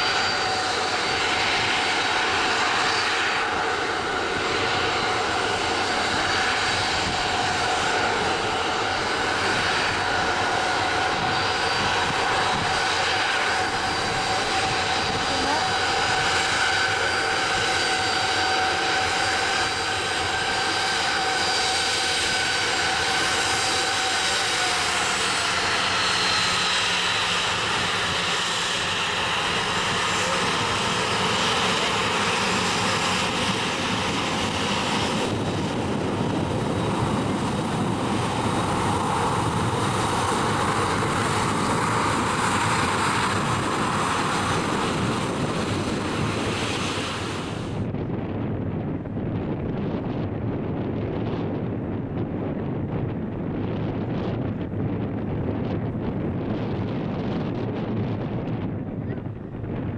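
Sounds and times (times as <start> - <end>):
broad rushing roar: 0.0 - 59.9
jet engines whining: 0.0 - 59.9.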